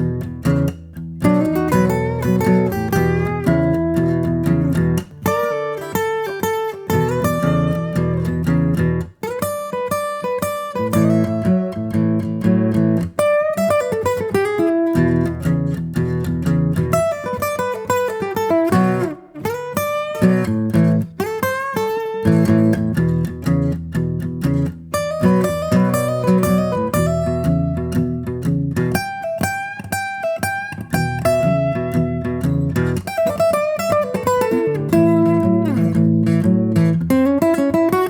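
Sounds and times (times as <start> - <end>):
acoustic guitar plucked and strummed: 0.0 - 38.0.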